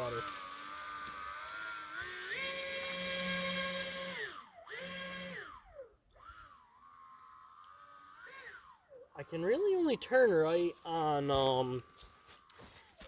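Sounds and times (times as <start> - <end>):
electric boat motor whining: 0.0 - 13.0.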